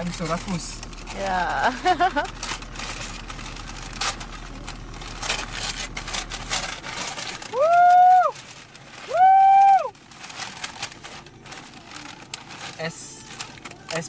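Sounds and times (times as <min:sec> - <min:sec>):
wrapping paper and plastic crinkling: 0:00.0 - 0:14.0.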